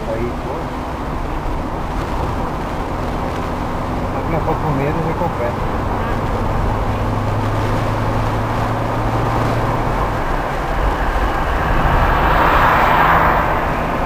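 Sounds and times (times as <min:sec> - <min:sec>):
car engine and tyre noise: 0:00.0 - 0:14.0
truck passing: 0:00.0 - 0:14.0.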